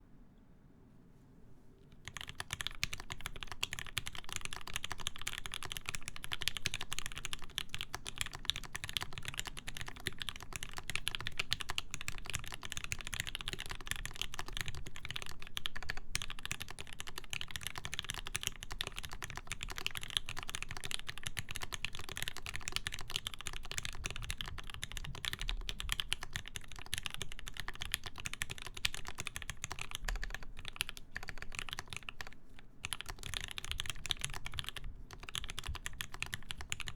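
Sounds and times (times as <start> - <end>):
fast typing on mechanical keyboard: 2.0 - 36.9.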